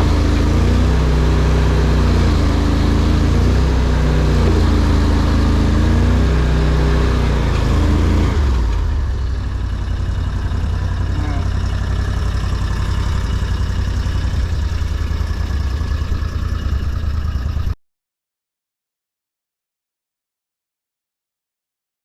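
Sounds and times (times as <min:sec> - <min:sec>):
vehicle engine running: 0:00.0 - 0:17.8.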